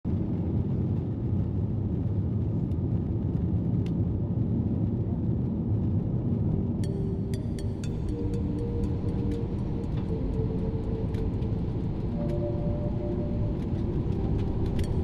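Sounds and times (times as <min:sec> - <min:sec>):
jet engines rumbling: 0:00.1 - 0:15.0.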